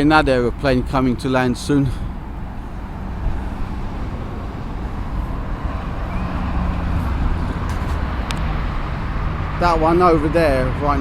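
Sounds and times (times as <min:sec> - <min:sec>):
distant jet airliner rumble: 0:00.0 - 0:11.0
faint high engine whine: 0:00.2 - 0:11.0.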